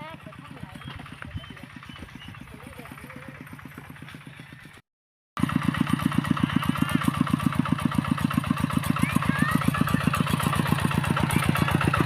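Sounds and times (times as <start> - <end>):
small engine running: 0.0 - 4.8, 5.4 - 12.0.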